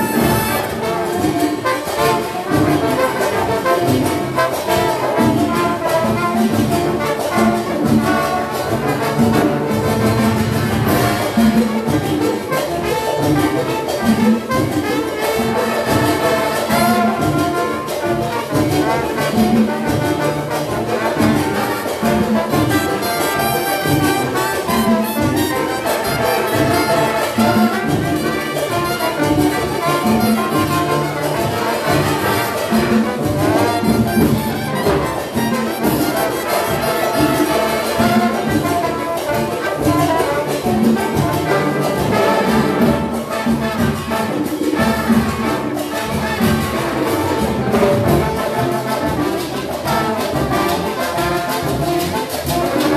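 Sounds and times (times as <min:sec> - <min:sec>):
big band latin dance music: 0:00.0 - 0:52.9.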